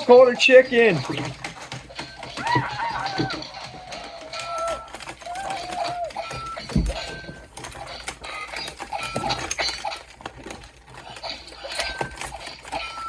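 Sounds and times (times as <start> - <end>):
plastic figures clacking together: 0.0 - 13.0.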